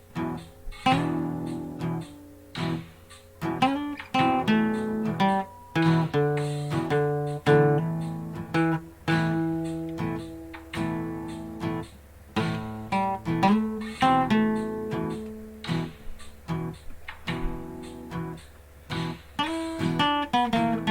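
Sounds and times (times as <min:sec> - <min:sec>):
acoustic guitar blues-rock piece: 0:00.0 - 0:20.9.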